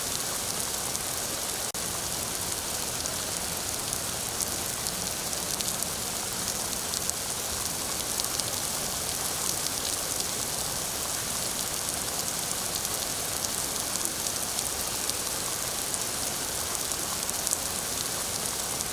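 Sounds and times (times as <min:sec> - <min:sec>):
steady rain falling: 0:00.0 - 0:18.9.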